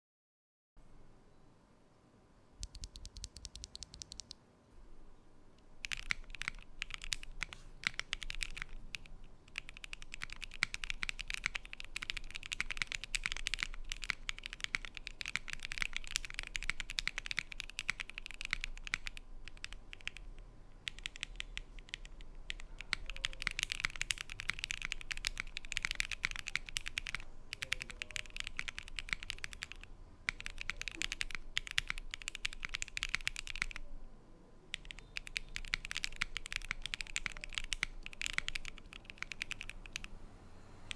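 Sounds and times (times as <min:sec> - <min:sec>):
mechanical keyboard typing: 0:02.6 - 0:04.4, 0:05.8 - 0:33.9, 0:34.7 - 0:40.1.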